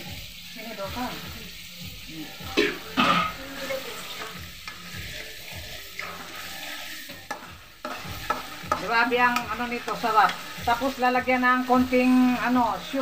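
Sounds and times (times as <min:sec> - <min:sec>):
metal spatula scraping a pan: 0:00.0 - 0:13.0
sauce sizzling in a pan: 0:00.0 - 0:13.0.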